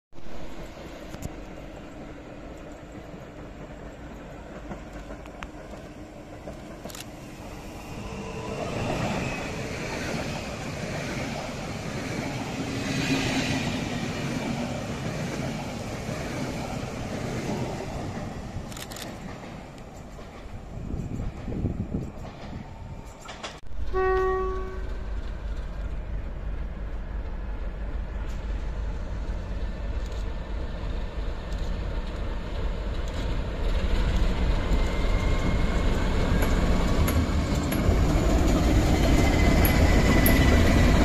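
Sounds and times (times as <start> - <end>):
electric train passing: 0.2 - 41.0.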